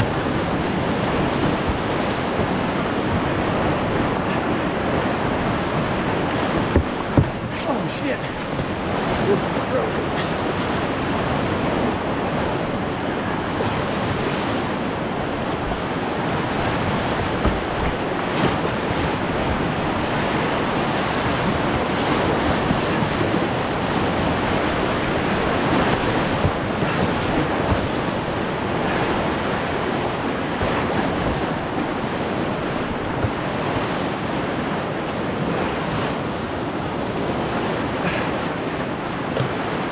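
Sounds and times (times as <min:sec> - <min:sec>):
water splashes: 0:00.0 - 0:39.9
whitewater rushing: 0:00.0 - 0:39.9.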